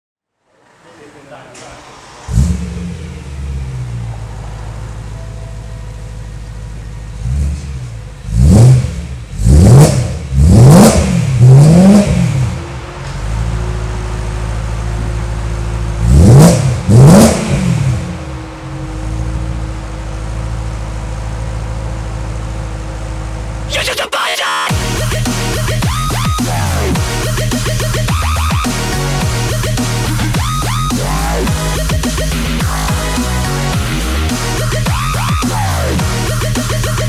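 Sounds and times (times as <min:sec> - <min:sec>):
car exhaust idling: 0:00.4 - 0:24.1, 0:24.7 - 0:37.0
engine throttle blips: 0:00.5 - 0:37.0.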